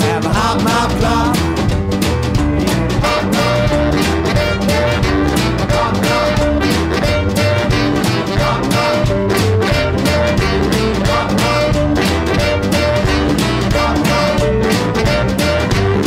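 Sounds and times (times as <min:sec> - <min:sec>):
driving drum beat: 0:00.0 - 0:16.0
swing band playing: 0:00.0 - 0:16.0
saxophones: 0:03.0 - 0:16.0.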